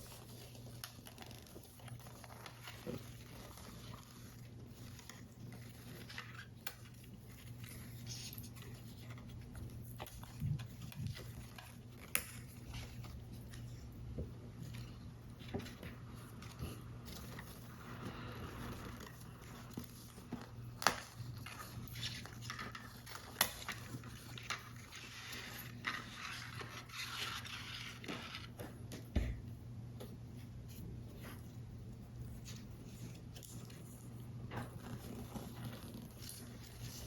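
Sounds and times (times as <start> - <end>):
paper crinkling and scraping: 0.0 - 29.0, 30.6 - 37.0.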